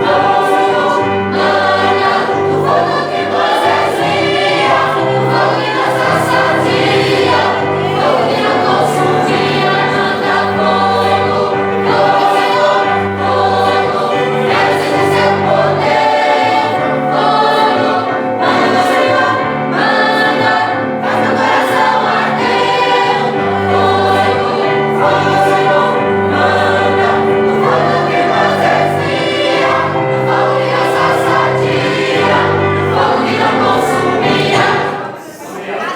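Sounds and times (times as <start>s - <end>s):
instrumental accompaniment with bass: 0.0s - 35.0s
choir singing worship song: 0.0s - 35.9s.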